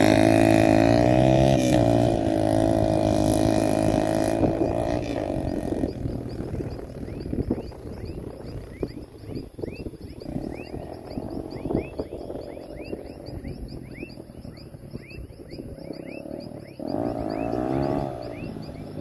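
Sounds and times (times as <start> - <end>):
frogs chirping: 0.0 - 19.0
small motorcycle engine running: 0.0 - 19.0.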